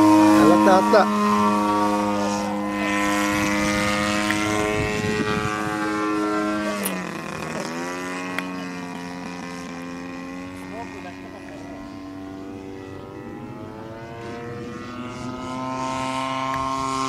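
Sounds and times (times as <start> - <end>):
model airplane engine droning: 0.0 - 17.0.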